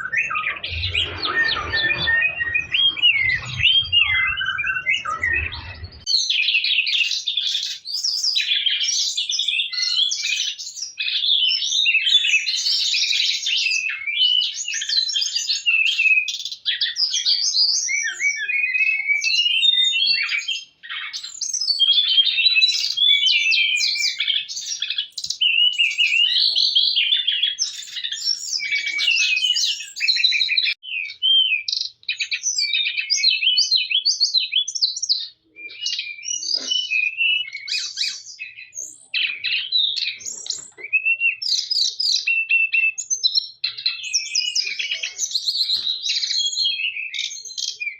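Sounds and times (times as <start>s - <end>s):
songbird singing rapid chirps: 0.0s - 47.9s.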